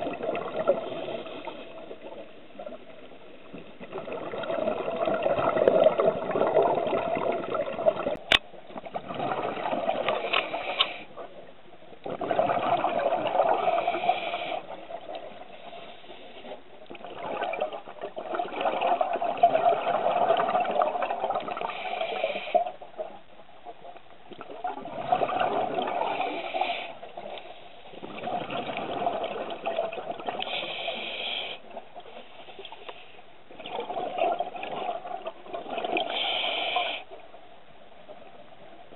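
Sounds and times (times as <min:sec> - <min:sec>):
underwater exhaled bubbles rushing: 0:00.0 - 0:10.8, 0:12.0 - 0:32.6, 0:33.5 - 0:37.1.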